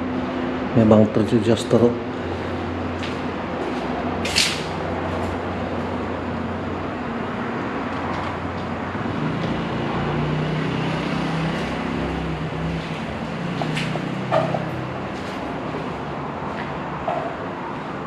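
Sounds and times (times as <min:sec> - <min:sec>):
heavy vehicle engine drone: 0:00.0 - 0:18.0
passing vehicles rushing: 0:00.0 - 0:18.0.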